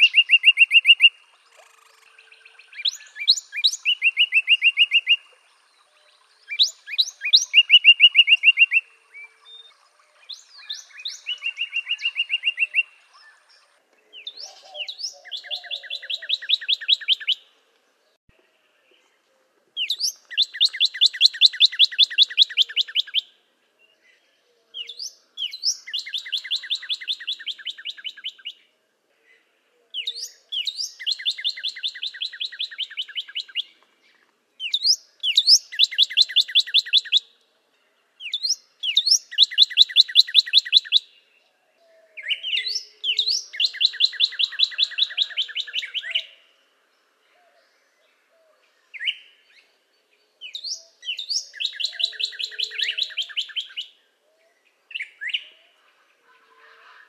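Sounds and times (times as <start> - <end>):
cardinal singing trills: 0.0 - 17.5, 19.8 - 23.4, 24.4 - 28.7, 29.9 - 33.8, 34.6 - 37.4, 38.2 - 41.1, 41.8 - 47.6, 48.2 - 56.2.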